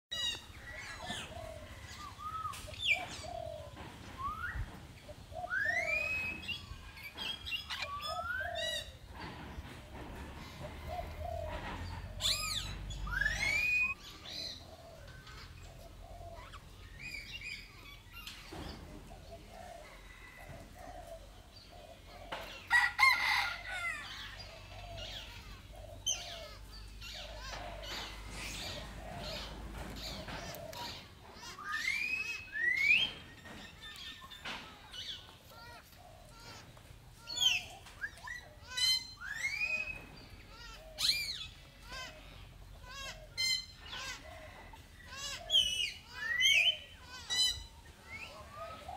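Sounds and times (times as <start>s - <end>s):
birds whistling and chirping: 0.1s - 48.9s.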